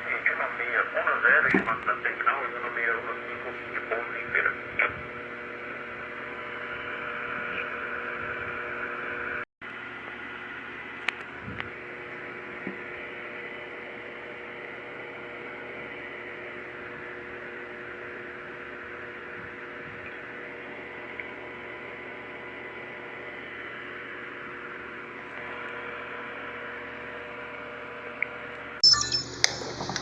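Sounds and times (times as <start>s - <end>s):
radio receiver hum and hiss: 0.0s - 9.4s, 10.8s - 27.2s.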